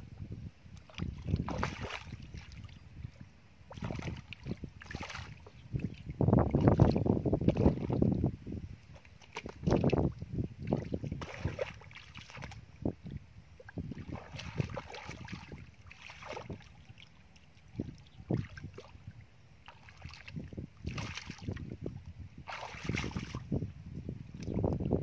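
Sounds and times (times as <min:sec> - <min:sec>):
muddy water sloshing and splashing: 0:00.7 - 0:23.6.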